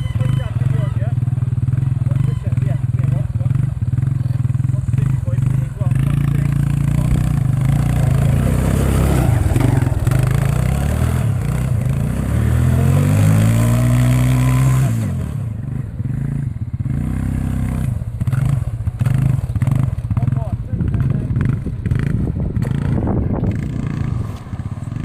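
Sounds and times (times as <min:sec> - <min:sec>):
quad bike engine revving: 0:00.0 - 0:25.0.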